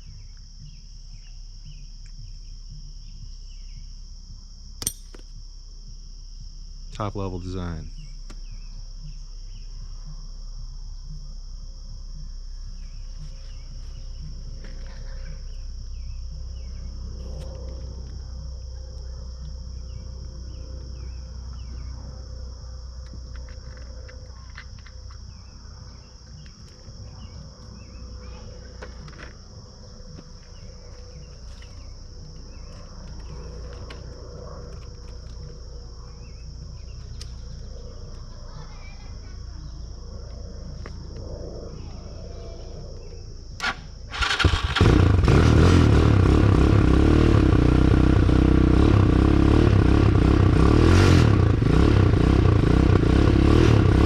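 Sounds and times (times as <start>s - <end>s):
crickets trilling: 0.0s - 54.0s
low steady rumble: 0.0s - 54.0s.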